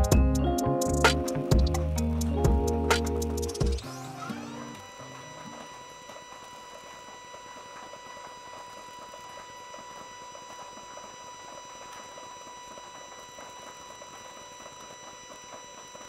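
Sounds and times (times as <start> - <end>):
stepper motor whine: 0.0 - 16.0.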